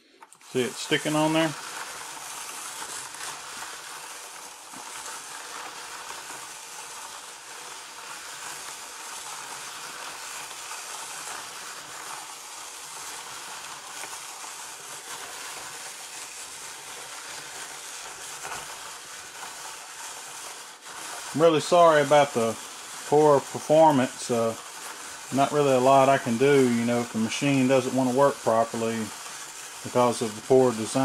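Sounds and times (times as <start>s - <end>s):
toy hand crank gears hissing: 0.0s - 31.0s.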